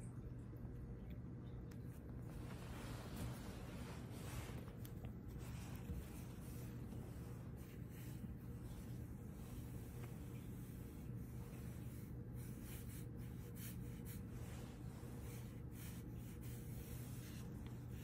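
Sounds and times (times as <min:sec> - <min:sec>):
faint scratchy rustles: 0:01.7 - 0:18.0.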